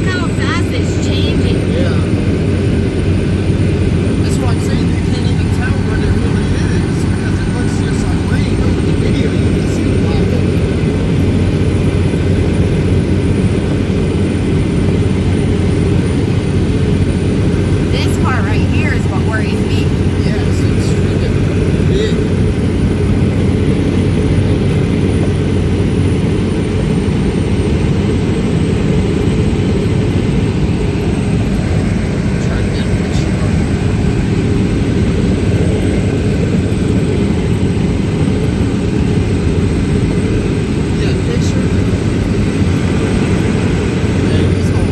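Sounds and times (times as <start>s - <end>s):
strong wind: 0.0s - 44.9s.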